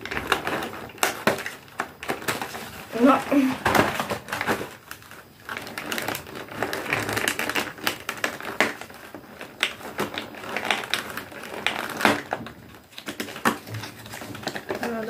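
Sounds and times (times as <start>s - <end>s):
packaging crinkling: 0.0s - 15.0s.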